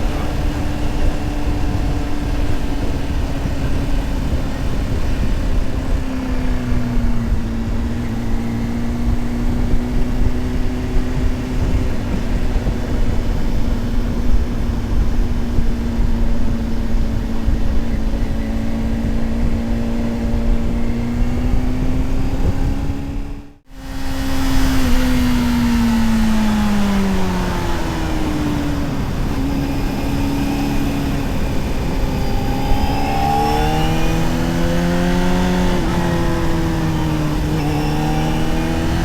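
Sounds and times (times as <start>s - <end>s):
motorcycle engine cruising: 0.0s - 39.0s
wind and road noise: 0.0s - 39.0s.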